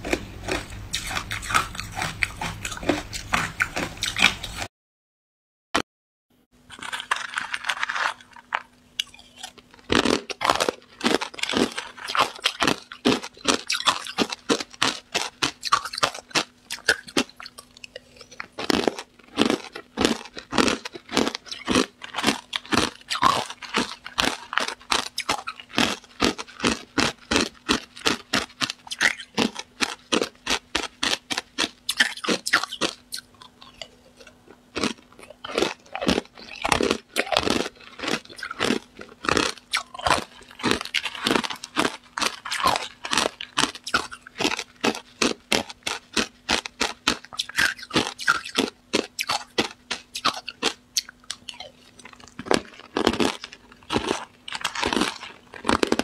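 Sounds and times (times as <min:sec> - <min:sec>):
ice being chewed: 0:00.0 - 0:04.7, 0:06.7 - 0:56.0.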